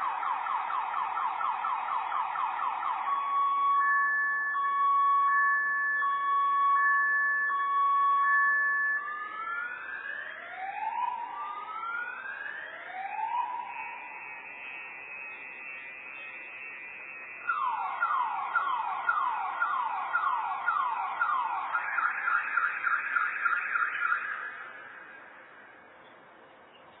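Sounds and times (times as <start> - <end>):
distant car alarm: 0.0 - 25.9.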